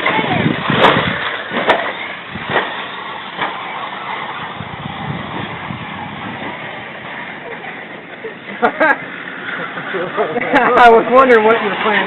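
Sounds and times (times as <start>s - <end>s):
remote-control cars whirring: 0.0s - 12.0s.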